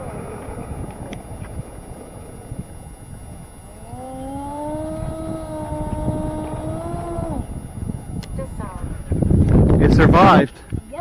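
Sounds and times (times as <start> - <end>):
low rumble: 0.0 - 10.2
electric fans whining: 0.0 - 11.0.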